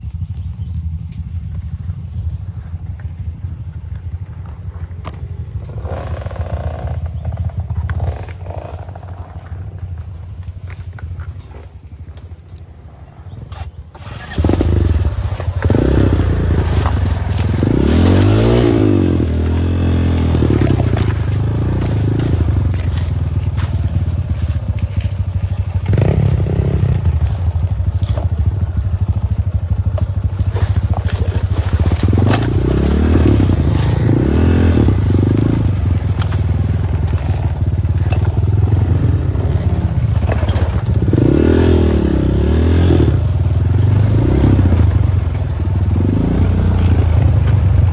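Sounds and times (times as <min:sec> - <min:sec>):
bike rattling and scraping: 0:00.0 - 0:47.9
dirt bike engine revving: 0:05.3 - 0:09.9, 0:13.9 - 0:47.9.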